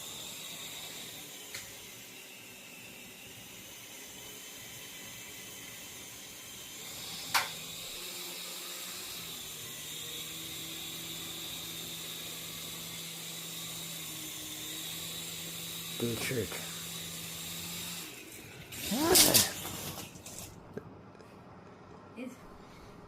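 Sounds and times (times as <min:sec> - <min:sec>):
toy helicopter rotor whirring: 0:00.0 - 0:20.6.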